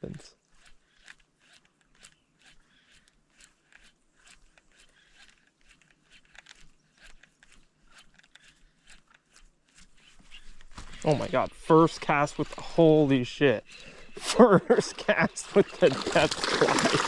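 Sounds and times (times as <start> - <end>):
faint clicks and ticks: 0.1 - 14.2.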